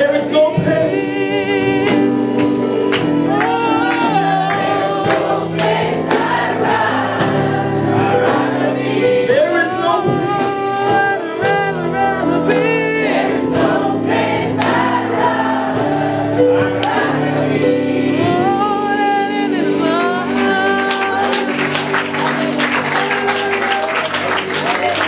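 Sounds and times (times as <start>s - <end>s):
band accompaniment: 0.0s - 25.0s
voices singing a melody: 0.0s - 25.0s.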